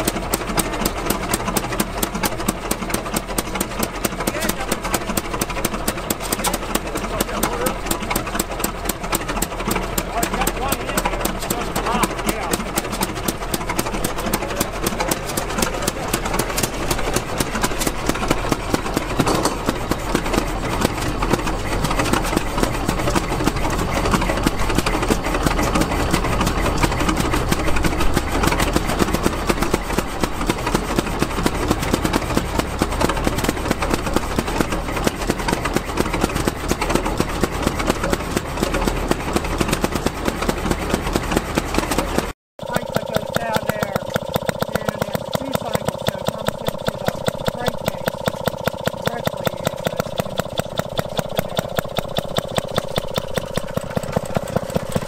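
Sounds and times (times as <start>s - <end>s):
stationary gas engine running: 0.0s - 55.0s.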